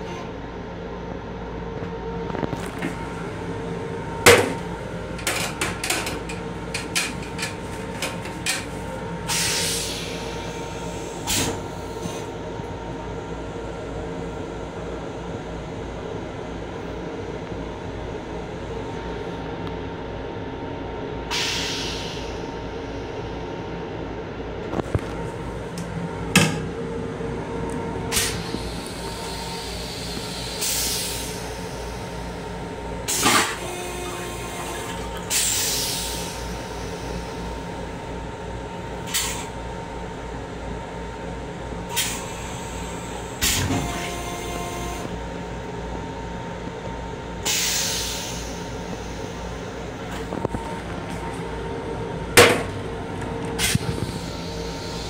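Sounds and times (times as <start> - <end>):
electric railcar hum: 0.0 - 55.0.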